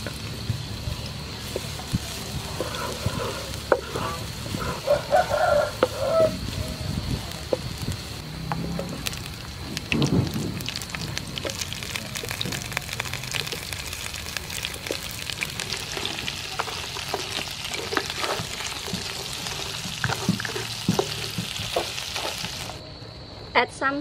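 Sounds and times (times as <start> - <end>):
prawns sizzling in hot oil: 0.0 - 22.8.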